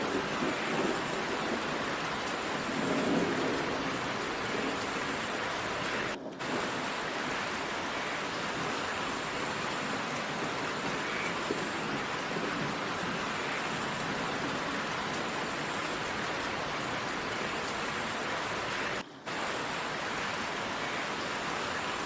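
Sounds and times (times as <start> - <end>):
distant thunder rumbling: 0.0 - 22.0
heavy rain falling: 0.0 - 22.0.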